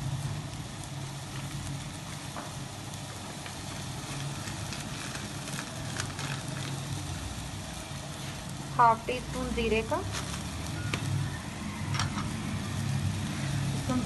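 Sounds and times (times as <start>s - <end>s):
hot oil sizzling in a pan: 0.0s - 14.0s.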